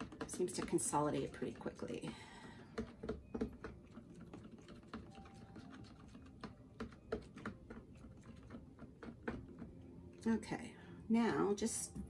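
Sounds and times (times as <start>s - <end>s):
spoon stirring in plastic cup: 0.0s - 10.2s.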